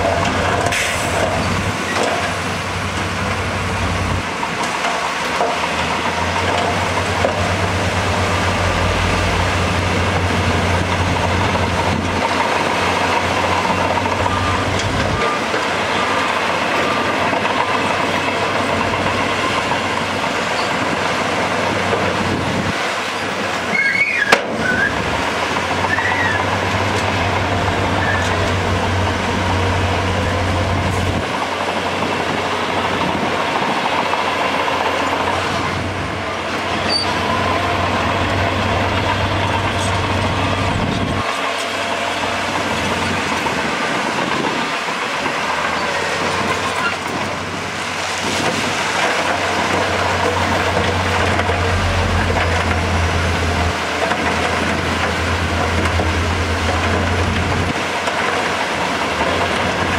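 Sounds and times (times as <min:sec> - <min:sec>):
bulldozer running: 0:00.0 - 0:59.9
dump truck engines: 0:00.0 - 0:59.9
steel tracks clattering and squealing: 0:00.0 - 0:59.9.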